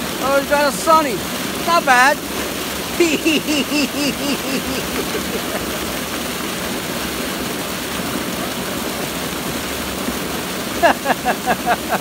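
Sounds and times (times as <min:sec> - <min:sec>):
water pouring from pipe: 0:00.0 - 0:12.0.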